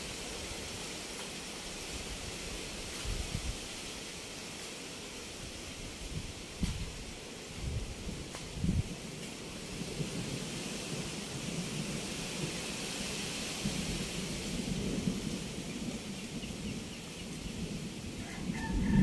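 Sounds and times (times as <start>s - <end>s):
strong gusting wind: 1.8s - 4.0s, 5.2s - 19.0s.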